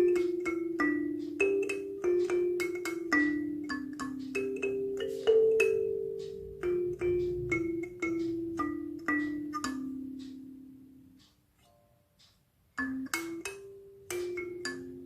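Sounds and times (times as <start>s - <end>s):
kalimba notes plucked: 0.0s - 11.2s, 12.8s - 15.0s.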